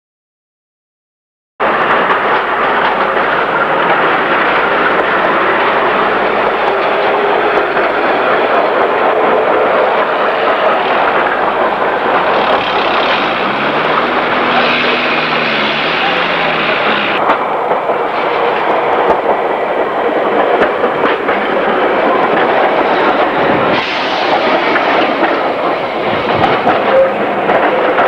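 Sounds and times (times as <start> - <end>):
tram wheels rumbling on track: 1.6 - 28.0.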